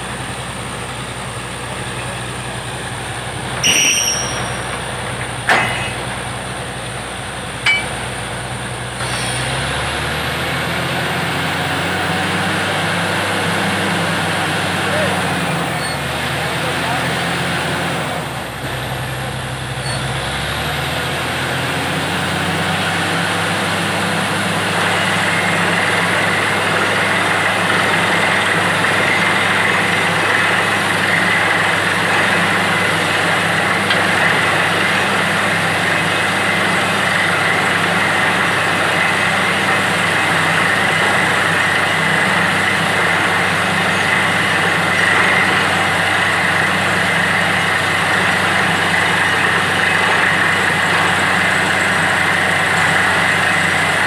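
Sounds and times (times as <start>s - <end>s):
drilling rig engine drone: 0.0s - 54.0s.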